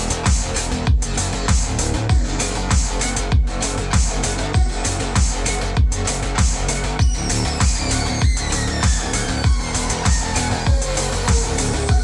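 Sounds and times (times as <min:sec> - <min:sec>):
deep kick drum: 0:00.0 - 0:12.0
electronic music with guitar: 0:00.0 - 0:12.0.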